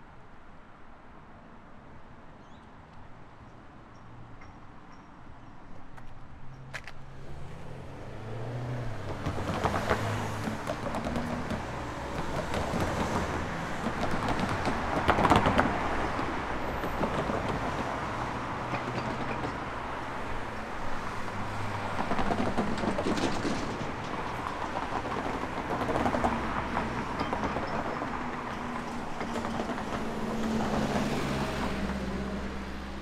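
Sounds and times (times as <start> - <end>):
road vehicles passing: 2.3 - 33.0.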